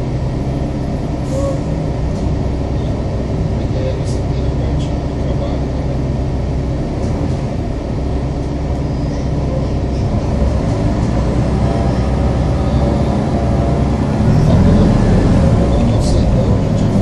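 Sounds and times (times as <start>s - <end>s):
bus body rumbling: 0.0s - 17.0s
bus engine running: 0.0s - 17.0s.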